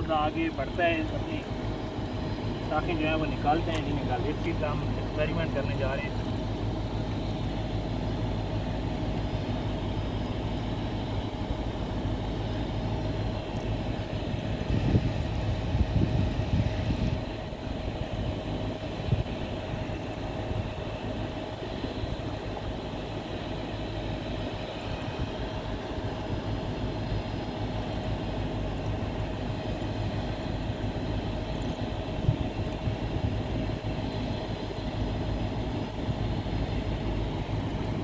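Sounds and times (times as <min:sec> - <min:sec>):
steady machine drone: 0:00.0 - 0:38.0.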